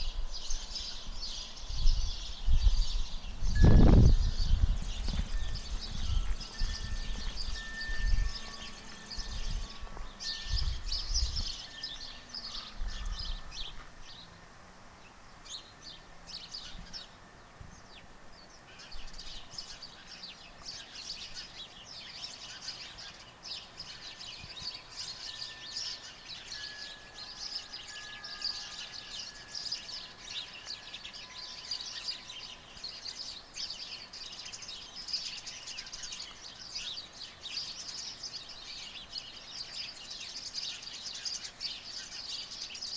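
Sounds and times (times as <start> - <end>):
small birds chirping: 0.0 - 14.4, 15.0 - 42.9.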